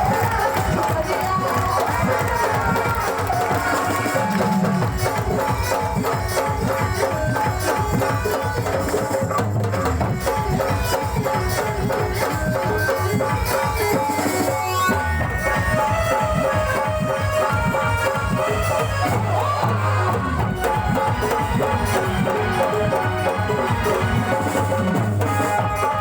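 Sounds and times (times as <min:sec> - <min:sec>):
loud music with fast drums: 0:00.0 - 0:26.0.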